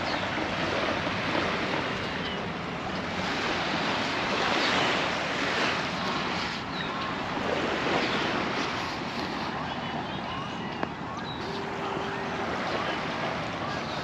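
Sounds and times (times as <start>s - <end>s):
small waves washing on beach: 0.0s - 14.0s.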